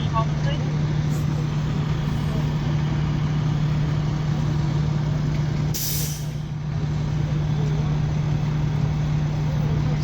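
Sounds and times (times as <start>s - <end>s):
large vehicle engine idling: 0.0s - 10.0s.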